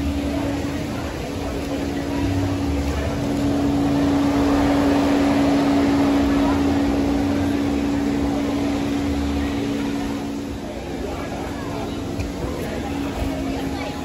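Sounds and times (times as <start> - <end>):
mechanical drone: 0.0 - 14.0
outdoor background noise: 0.0 - 14.0.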